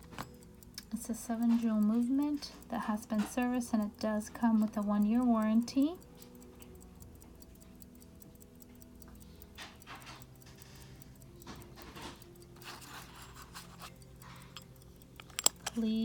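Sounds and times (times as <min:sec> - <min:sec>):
pocket watch ticking faintly: 0:00.0 - 0:16.0.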